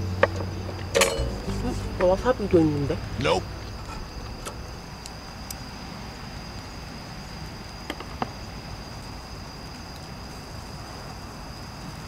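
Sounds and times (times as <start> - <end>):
insects chirring: 0.0 - 12.0
low background noise: 0.0 - 12.0.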